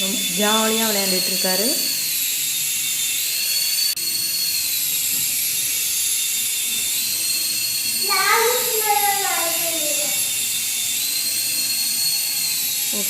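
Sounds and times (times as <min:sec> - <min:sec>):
toy helicopter motors whining: 0:00.0 - 0:13.0.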